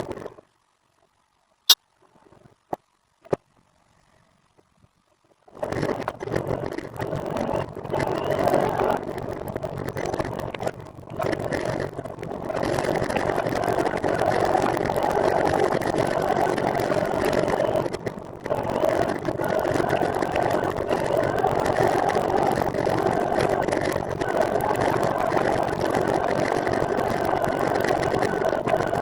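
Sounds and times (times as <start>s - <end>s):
wind noise at microphone: 5.7s - 29.0s.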